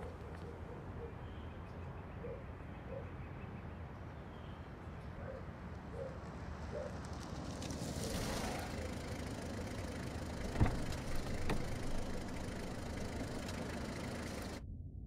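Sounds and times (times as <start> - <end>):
low outdoor background rumble: 0.1 - 15.0.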